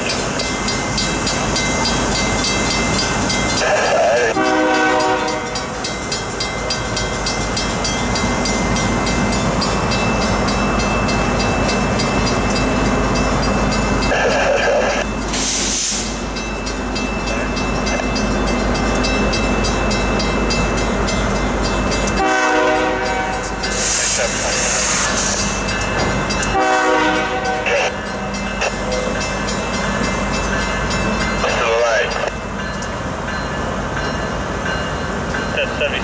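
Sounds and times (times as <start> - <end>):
diesel locomotives rumbling: 0.0 - 36.0.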